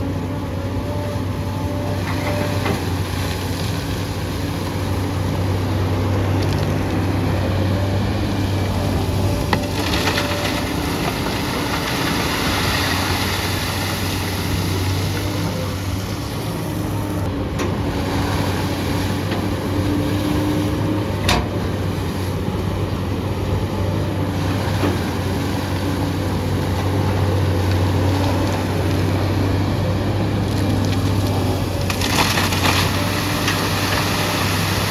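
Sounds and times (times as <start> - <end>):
excavator diesel engine humming: 0.0 - 34.9.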